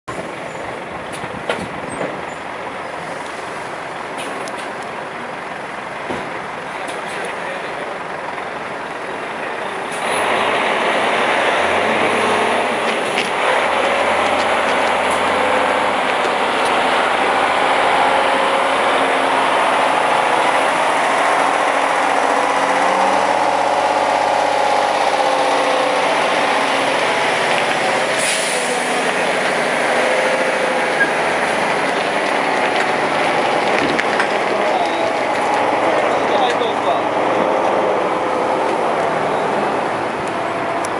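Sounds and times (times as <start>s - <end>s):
truck diesel engine running: 0.1s - 40.9s
tyre and road noise: 0.1s - 40.9s.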